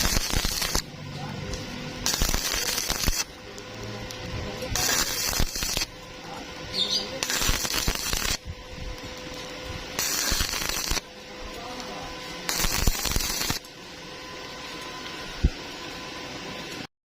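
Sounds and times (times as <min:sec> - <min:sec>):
welding arc crackling: 0:00.0 - 0:16.9.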